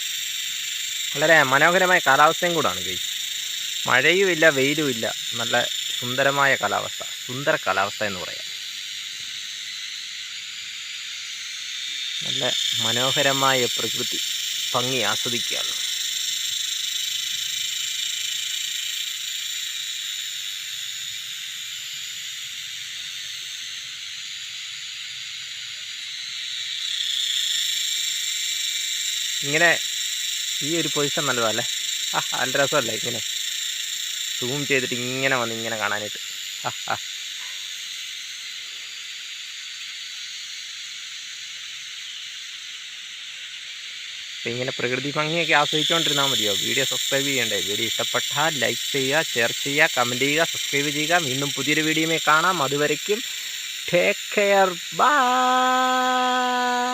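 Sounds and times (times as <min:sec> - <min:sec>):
cicadas buzzing: 0:00.0 - 0:56.9
high-pitched insect chorus: 0:00.0 - 0:56.9.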